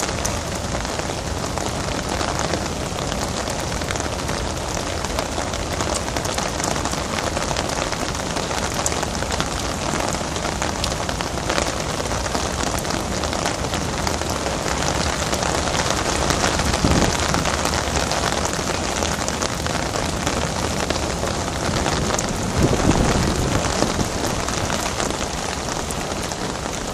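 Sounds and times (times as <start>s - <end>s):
heavy rain hissing: 0.0s - 26.9s.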